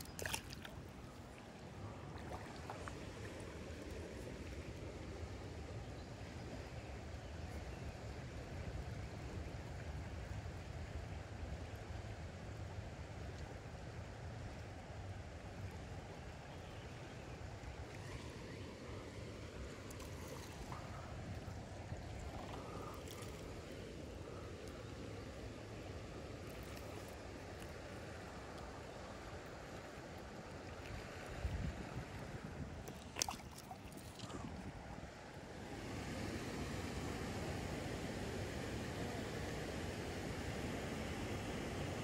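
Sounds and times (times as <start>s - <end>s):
river water flowing and lapping: 0.0s - 42.0s.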